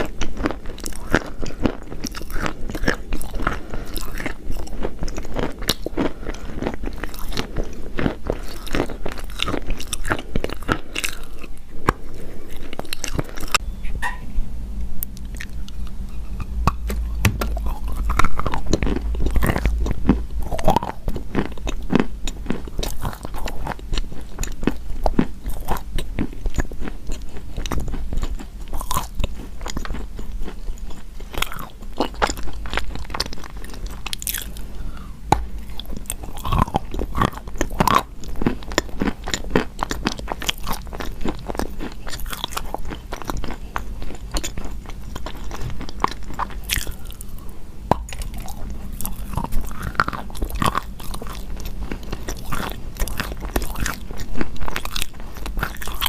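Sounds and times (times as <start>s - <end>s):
chalk crunching while chewed: 0.0s - 13.6s, 15.0s - 56.0s.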